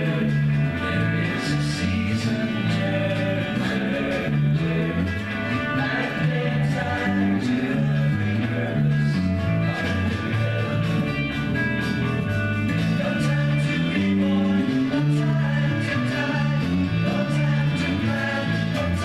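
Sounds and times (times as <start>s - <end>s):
bass line: 0.0s - 19.0s
electric guitars: 0.0s - 19.0s
person singing: 0.0s - 19.0s
rock song with singing: 0.0s - 19.0s.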